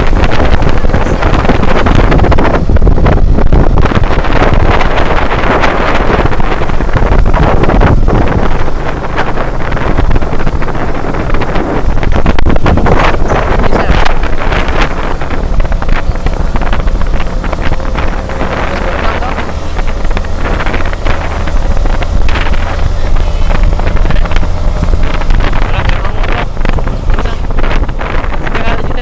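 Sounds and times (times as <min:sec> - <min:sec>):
motorcycle engine drone: 0:00.0 - 0:29.0
wind buffeting microphone: 0:00.0 - 0:29.0.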